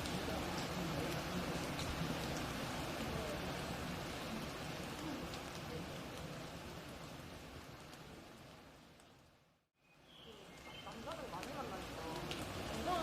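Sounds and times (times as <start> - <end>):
rain pattering in forest: 0.0 - 13.0.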